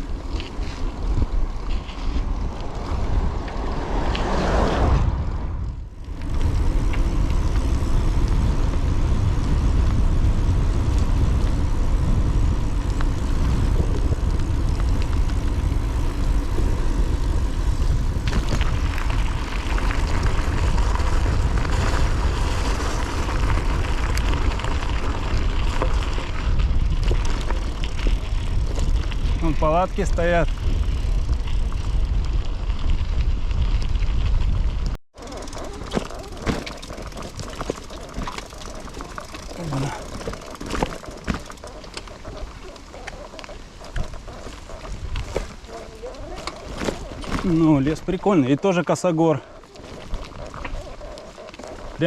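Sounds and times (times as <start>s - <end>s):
bicycle tyre and road noise: 0.0s - 52.0s
wind rumbling on microphone: 0.0s - 52.0s.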